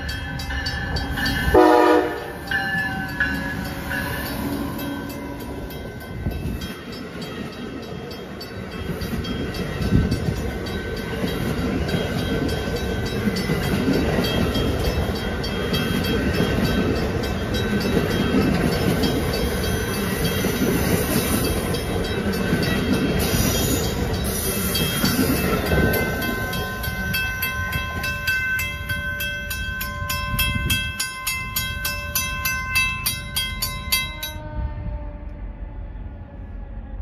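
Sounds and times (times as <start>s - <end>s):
crossing warning bell dinging: 0.0s - 34.9s
train cars rumbling on rails: 0.0s - 37.0s.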